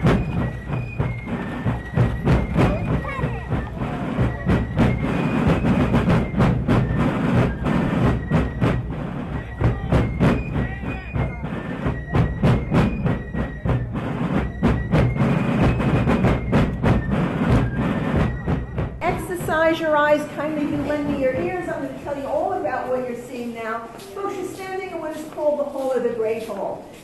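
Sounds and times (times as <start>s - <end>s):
drum strokes: 0.0s - 22.6s
fife melody: 0.0s - 22.6s.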